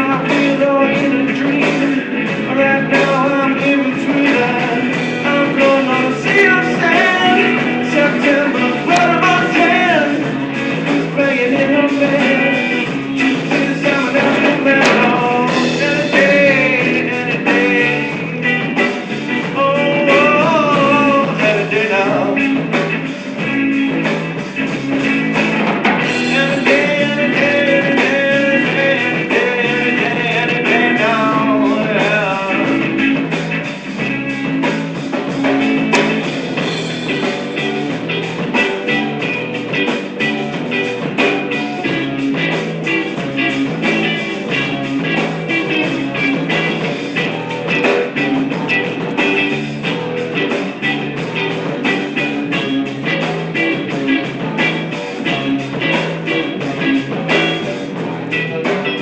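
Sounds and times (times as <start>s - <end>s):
guitar music: 0.0s - 59.0s.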